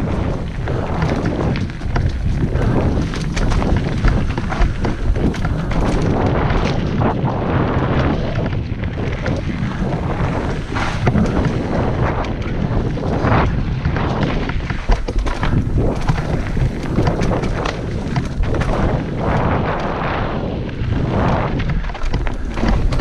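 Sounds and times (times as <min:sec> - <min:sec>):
bike rattling over roots: 0:00.0 - 0:23.0
tyres rumbling on dirt: 0:00.0 - 0:23.0
wind buffeting microphone: 0:00.0 - 0:23.0.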